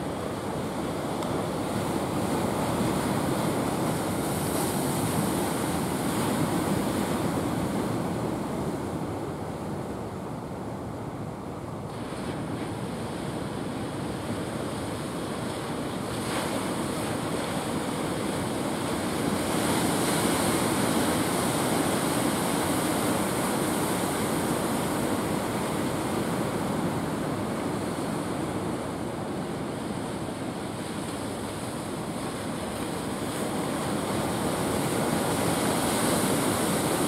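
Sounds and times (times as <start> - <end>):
ocean surf breaking: 0.0 - 10.3, 10.9 - 37.0.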